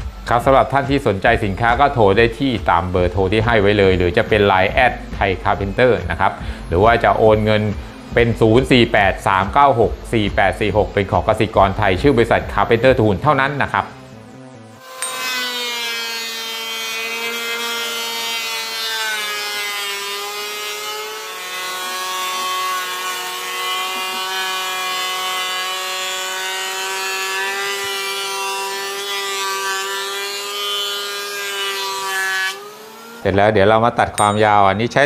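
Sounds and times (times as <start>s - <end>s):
hiss of planer cutting wood: 0.0s - 11.3s, 14.8s - 33.4s
thickness planer whining: 0.0s - 35.0s.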